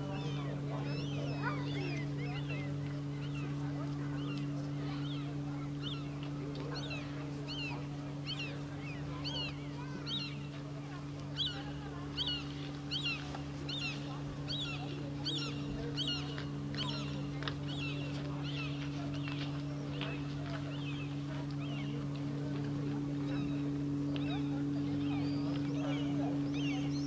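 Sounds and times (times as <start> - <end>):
bird calling: 0.0 - 27.0
steady low hum: 0.0 - 27.0.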